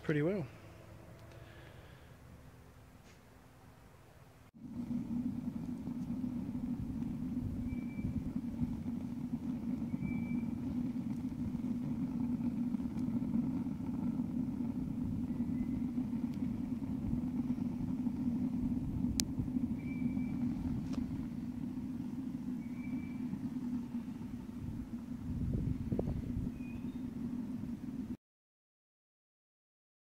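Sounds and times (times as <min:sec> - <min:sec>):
rocket stove fire rumbling: 0:00.0 - 0:03.0, 0:04.5 - 0:28.2.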